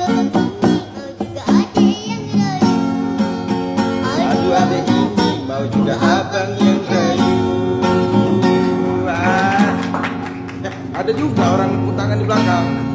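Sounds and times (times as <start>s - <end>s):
acoustic guitar music: 0.0s - 12.9s.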